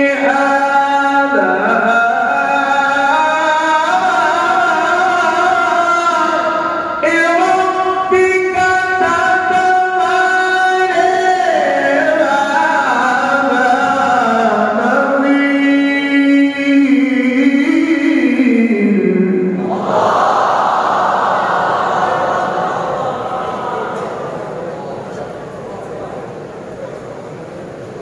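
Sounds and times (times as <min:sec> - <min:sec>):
man chanting through microphone: 0:00.0 - 0:27.7.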